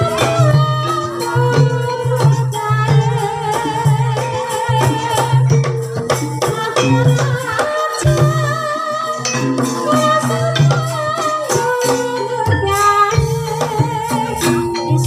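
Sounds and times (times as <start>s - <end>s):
ringing metallophone tones: 0.0s - 15.0s
wavering melody line: 0.0s - 15.0s.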